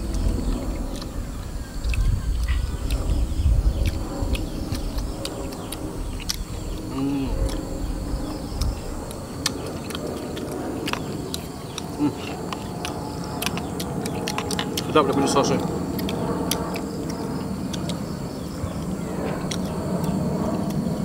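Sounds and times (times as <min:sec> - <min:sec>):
people chewing crunchy food: 0:00.0 - 0:21.0.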